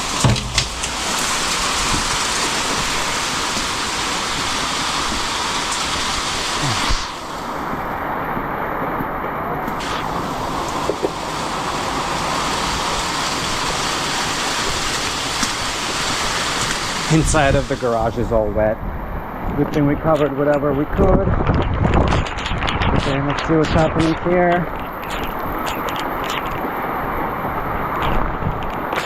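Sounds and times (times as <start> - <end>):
heavy rain: 0.0 - 29.0
wind: 0.0 - 29.0.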